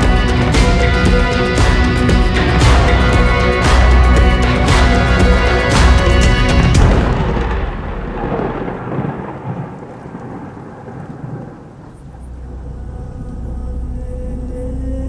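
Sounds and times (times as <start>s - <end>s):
thunder crash rumbling: 0.0s - 13.0s
rain: 0.0s - 15.0s.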